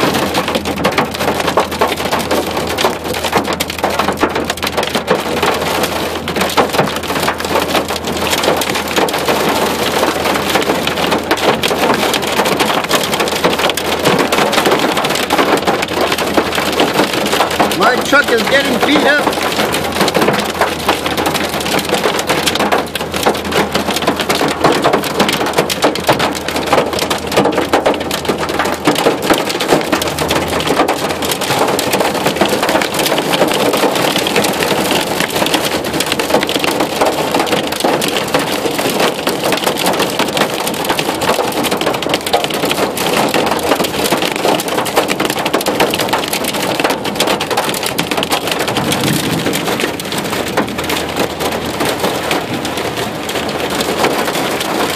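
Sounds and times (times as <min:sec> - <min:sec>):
hail and rain on vehicle roof: 0:00.0 - 0:54.9.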